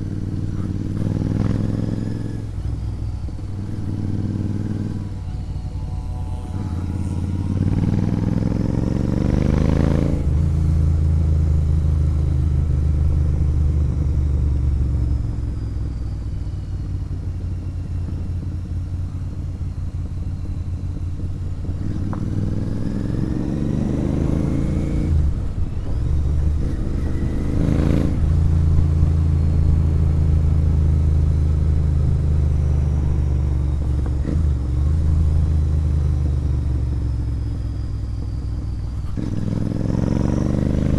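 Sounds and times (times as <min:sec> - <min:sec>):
motorcycle engine revving and shifting: 0:00.0 - 0:40.9.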